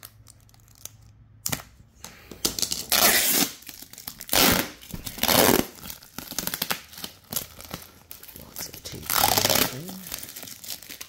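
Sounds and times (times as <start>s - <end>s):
plastic wrapping tearing: 0.0s - 1.6s, 2.6s - 11.0s.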